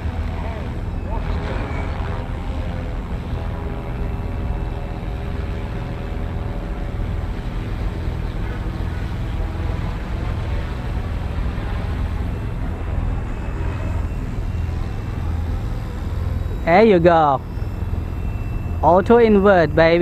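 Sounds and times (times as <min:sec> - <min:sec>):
rc helicopter rotor whirring: 0:00.0 - 0:20.0.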